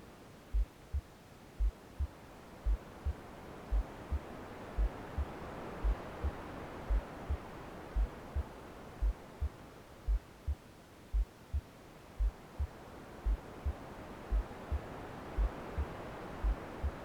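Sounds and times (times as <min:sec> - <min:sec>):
soft white noise hiss: 0:00.0 - 0:17.0
slow heartbeat thumps: 0:00.5 - 0:17.0.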